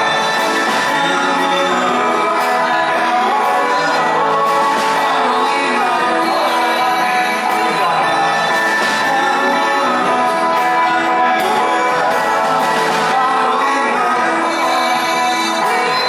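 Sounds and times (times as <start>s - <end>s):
live pop band with singing: 0.0s - 16.0s.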